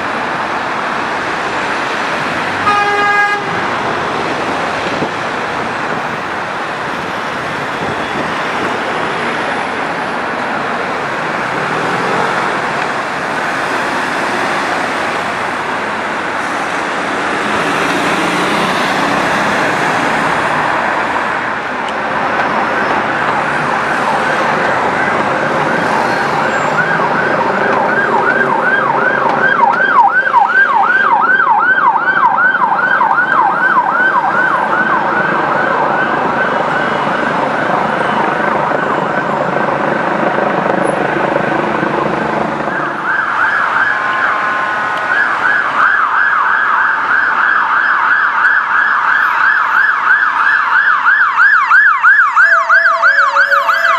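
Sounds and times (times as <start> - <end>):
busy road traffic: 0.0 - 53.9
emergency vehicle sirens: 0.0 - 53.9.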